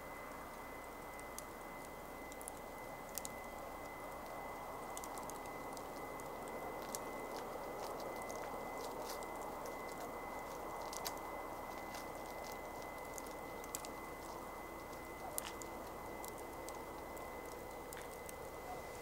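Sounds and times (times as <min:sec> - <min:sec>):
burning wood crackling: 0:00.0 - 0:19.0
campfire flame hissing: 0:00.0 - 0:19.0.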